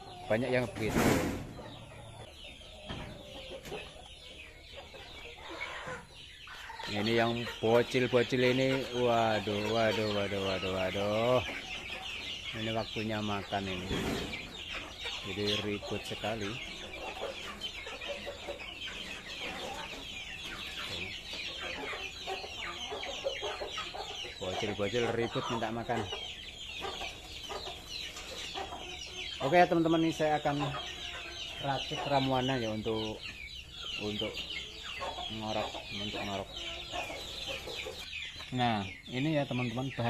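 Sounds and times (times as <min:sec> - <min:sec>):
chickens clucking: 0:00.0 - 0:40.0
chicks peeping: 0:00.0 - 0:40.0.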